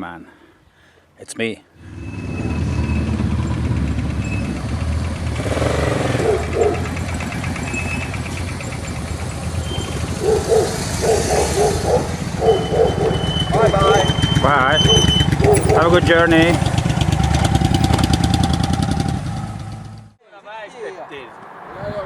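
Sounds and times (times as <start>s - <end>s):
motorcycle engine starting and idling: 1.8s - 20.2s.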